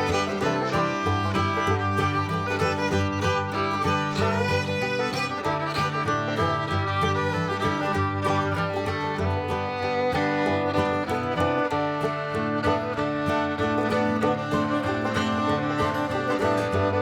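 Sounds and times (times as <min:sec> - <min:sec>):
banjo: 0:00.0 - 0:17.0
fiddle: 0:00.0 - 0:17.0
guitar: 0:00.0 - 0:17.0.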